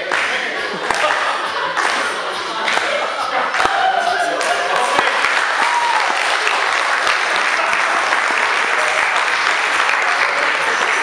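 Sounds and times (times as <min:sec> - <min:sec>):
audience applauding: 0:00.1 - 0:02.9, 0:03.5 - 0:11.0.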